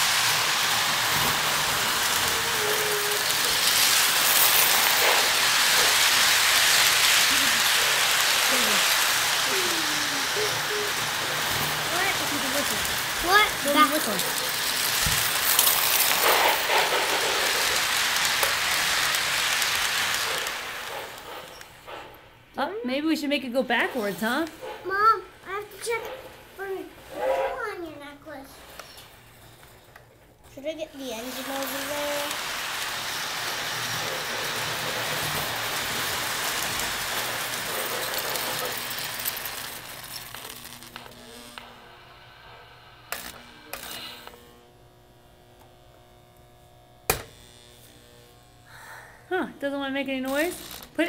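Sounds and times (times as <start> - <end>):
toy electric train running: 0.0 - 51.0.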